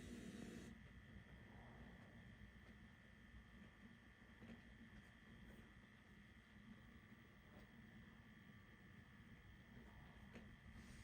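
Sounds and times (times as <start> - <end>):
tape hiss and hum: 0.0 - 11.0.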